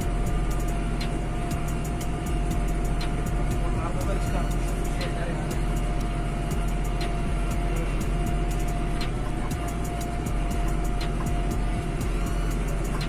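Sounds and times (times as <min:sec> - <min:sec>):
thin steady whine: 0:00.0 - 0:13.0
tractor engine drone: 0:00.0 - 0:13.0.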